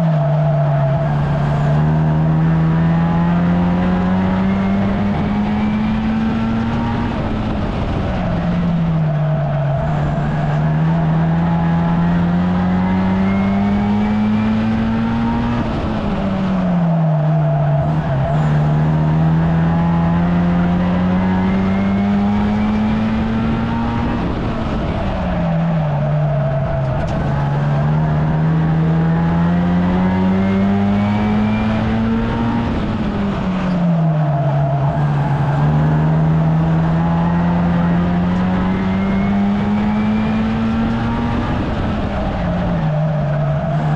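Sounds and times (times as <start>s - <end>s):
racing car engine: 0.0s - 43.9s.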